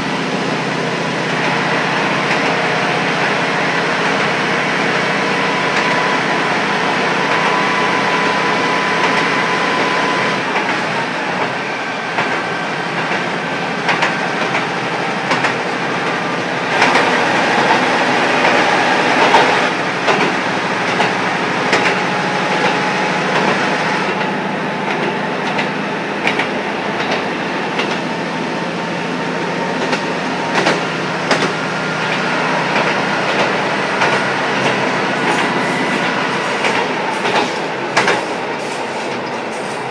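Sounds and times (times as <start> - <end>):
diesel railcar engine running: 0.0 - 39.9.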